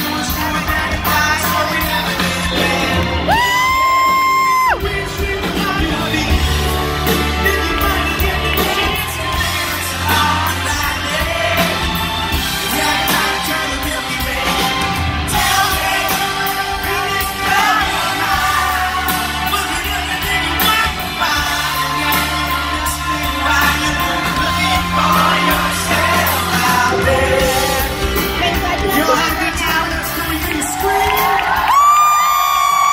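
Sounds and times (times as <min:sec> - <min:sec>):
man singing into microphone: 0:00.0 - 0:11.9, 0:12.6 - 0:31.4
bass guitar: 0:00.0 - 0:32.9
drums: 0:00.0 - 0:32.9.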